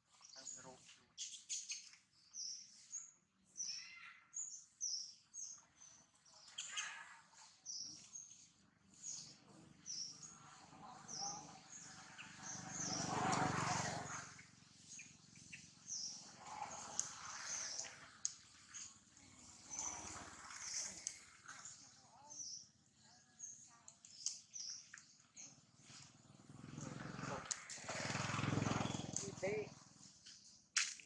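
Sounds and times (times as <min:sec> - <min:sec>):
small birds chirping: 0:00.1 - 0:30.8.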